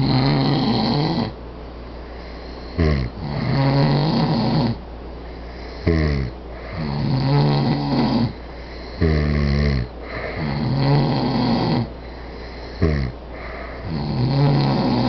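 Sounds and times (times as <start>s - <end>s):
drawn-out snore: 0.0s - 1.4s, 2.4s - 4.8s, 5.7s - 11.9s, 12.6s - 15.0s
harsh snort: 0.0s - 1.4s, 2.3s - 4.8s, 5.6s - 15.0s.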